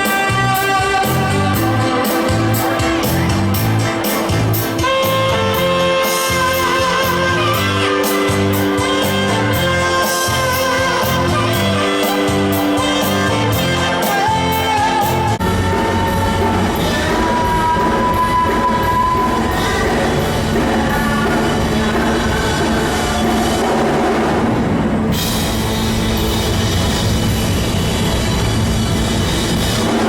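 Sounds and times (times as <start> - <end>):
rock music with guitar: 0.0 - 30.0.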